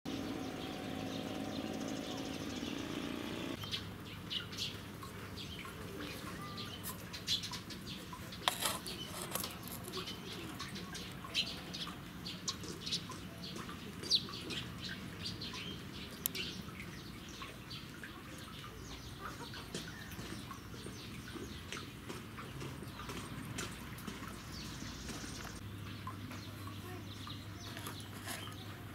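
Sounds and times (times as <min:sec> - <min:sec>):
small birds chirping: 0:00.1 - 0:28.9.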